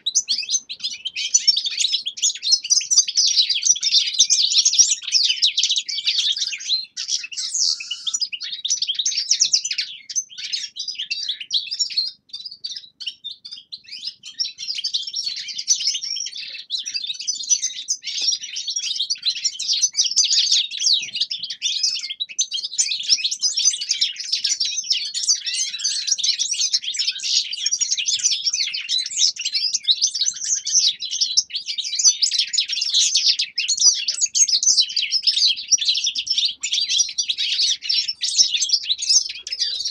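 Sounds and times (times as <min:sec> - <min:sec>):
finches chirping and trilling: 0:00.0 - 0:39.9.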